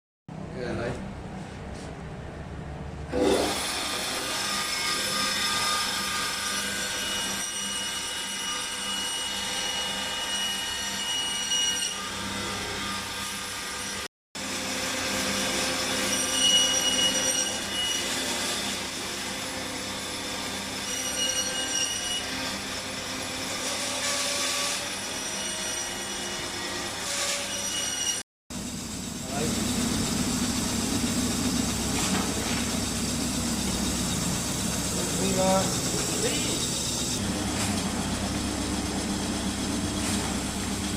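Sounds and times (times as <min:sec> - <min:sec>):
electric bone saw cutting fish: 0:03.1 - 0:28.2, 0:28.8 - 0:40.9.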